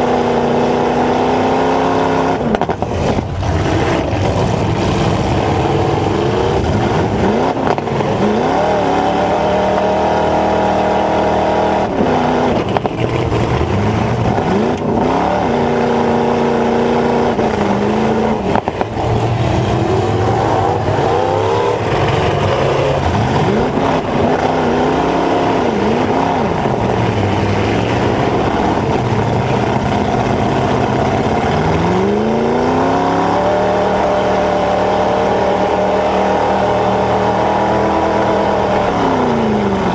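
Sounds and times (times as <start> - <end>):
pickup truck engine revving: 0.0 - 39.9.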